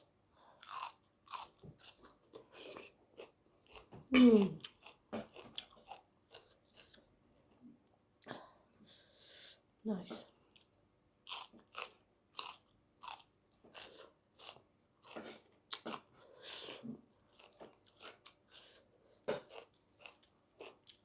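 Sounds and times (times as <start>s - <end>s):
person chewing: 0.0s - 7.2s, 10.4s - 21.0s.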